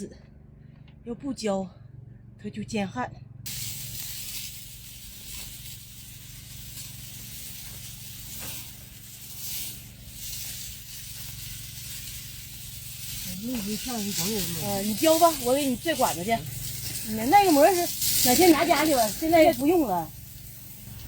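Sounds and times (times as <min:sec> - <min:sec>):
water spraying from hose: 0:03.5 - 0:21.0.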